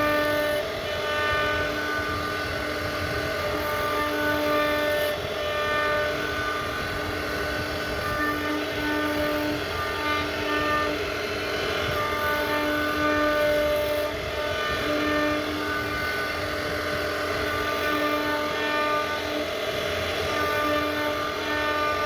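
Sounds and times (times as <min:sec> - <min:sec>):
router whine: 0:00.0 - 0:22.0
rushing cutting noise: 0:00.0 - 0:22.0.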